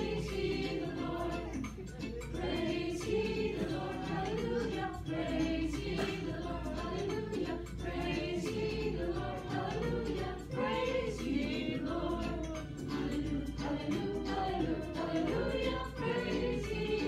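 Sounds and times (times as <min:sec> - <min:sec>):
group singing a christian song: 0:00.0 - 0:17.0
musical accompaniment: 0:00.0 - 0:17.0.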